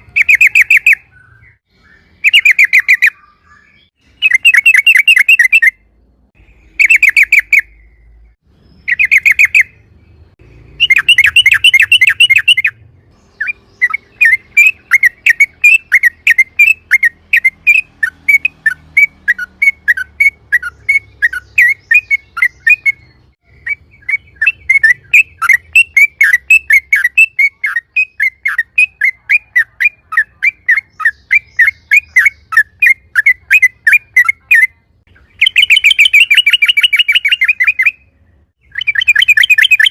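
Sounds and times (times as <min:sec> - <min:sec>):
bird chattering and chirping: 0:00.0 - 0:39.9.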